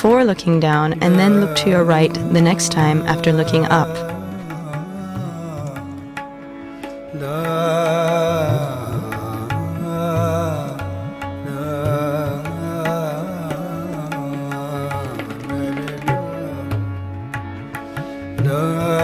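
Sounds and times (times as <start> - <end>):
wavering melody: 0.0 - 18.9.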